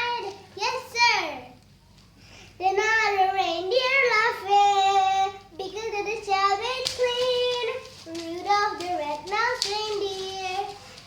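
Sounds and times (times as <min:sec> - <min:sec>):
child singing: 0:00.0 - 0:01.6, 0:02.6 - 0:11.0.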